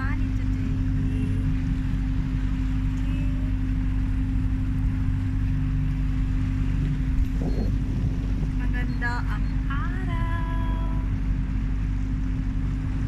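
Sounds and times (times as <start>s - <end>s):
motorboat engine humming: 0.0s - 13.0s
water and wind hissing: 0.0s - 13.0s.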